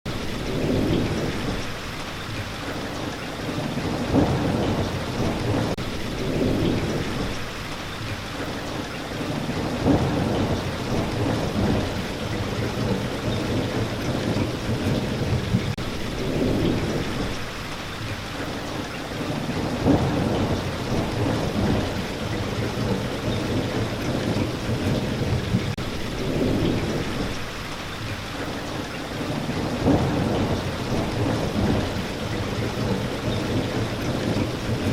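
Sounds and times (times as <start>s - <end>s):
thunder rumbling: 0.1s - 2.8s, 3.4s - 8.5s, 9.1s - 18.2s, 19.1s - 34.9s
steady rain falling: 0.1s - 34.9s.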